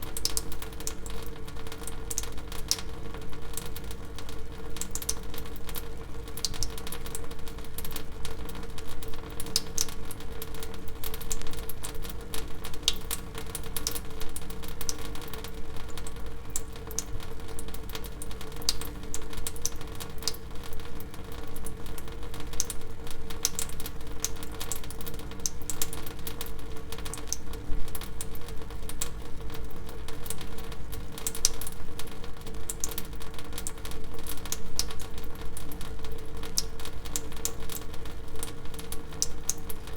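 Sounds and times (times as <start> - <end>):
water dripping: 0.1 - 32.1, 32.7 - 39.9.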